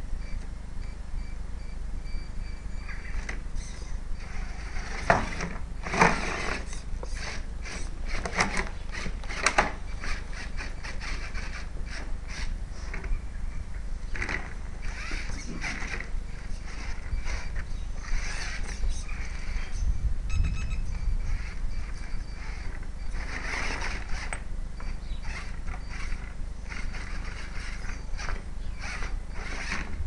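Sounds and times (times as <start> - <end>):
toy car drivetrain grinding: 3.1 - 13.1, 14.1 - 19.8, 21.2 - 30.0.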